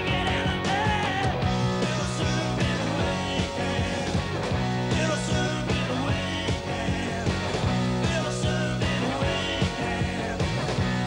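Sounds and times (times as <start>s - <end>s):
man singing: 0.0s - 10.6s
bass guitar: 0.0s - 11.0s
drums keeping a steady beat: 0.0s - 11.0s
electric guitar: 0.0s - 11.0s.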